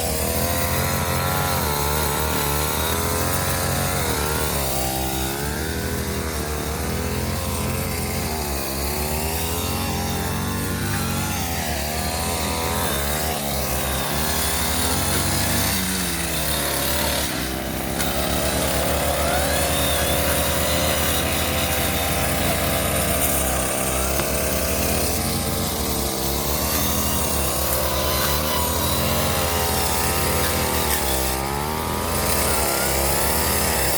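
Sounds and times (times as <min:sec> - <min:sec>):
brush cutter engine running: 0:00.0 - 0:33.9.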